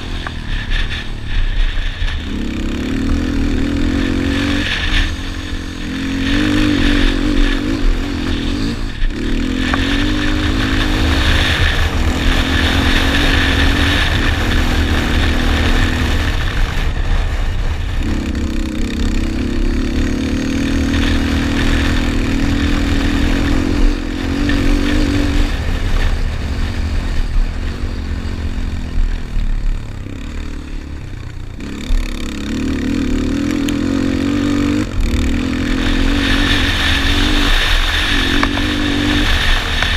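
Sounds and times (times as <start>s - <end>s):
wind rumble on microphone: 0.0s - 39.9s
quad engine revving hard: 2.2s - 17.0s, 17.9s - 29.2s, 29.8s - 39.9s.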